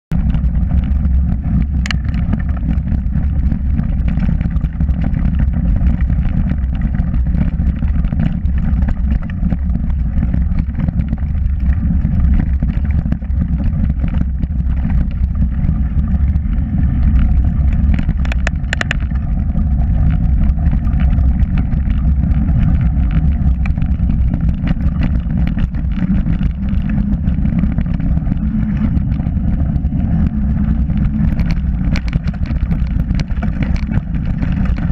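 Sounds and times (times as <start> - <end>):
wind buffeting microphone: 0.1 - 34.9
bike knocks and rattles: 0.2 - 34.9
tyres rolling over dirt: 0.2 - 34.9.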